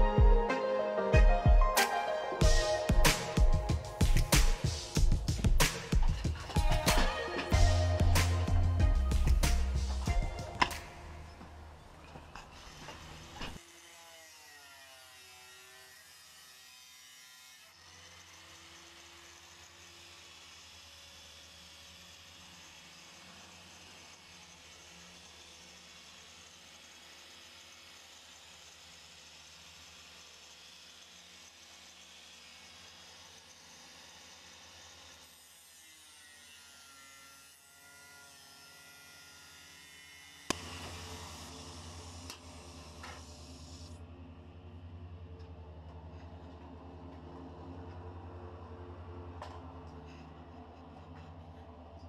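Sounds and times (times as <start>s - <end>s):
angle grinder cutting metal: 1.8s - 44.0s.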